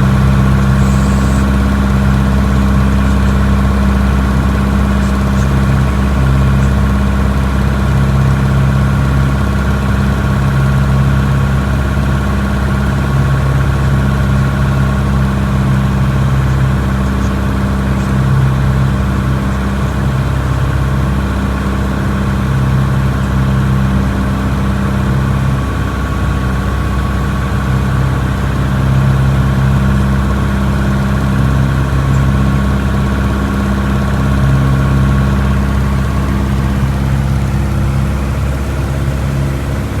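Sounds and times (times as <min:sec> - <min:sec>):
aircraft propeller engine drone: 0:00.0 - 0:40.0.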